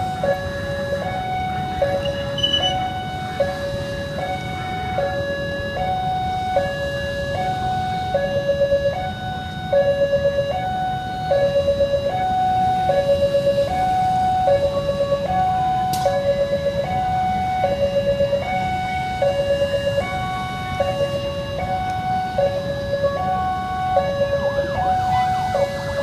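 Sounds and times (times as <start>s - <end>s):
level-crossing two-tone siren: 0.0s - 26.0s.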